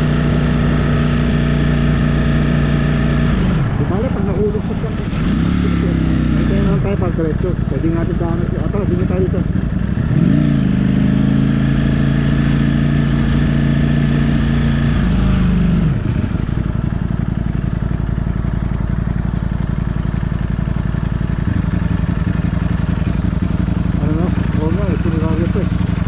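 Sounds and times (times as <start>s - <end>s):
motorcycle engine: 0.0s - 26.0s
wind and road noise: 0.0s - 26.0s.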